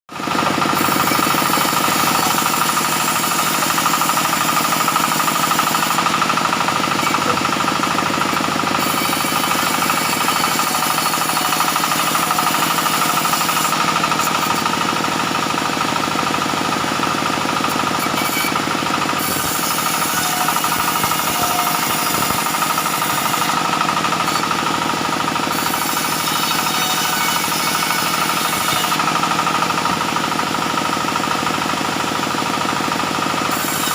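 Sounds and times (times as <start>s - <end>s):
sawmill machinery chatter: 0.1s - 33.9s
steady machine whine: 0.1s - 33.9s.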